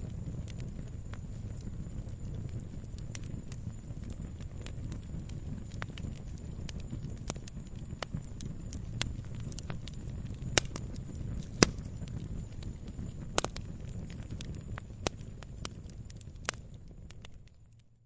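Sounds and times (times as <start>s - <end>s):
firewood popping and crackling: 0.0s - 18.0s
low rumble of flame: 0.0s - 18.0s.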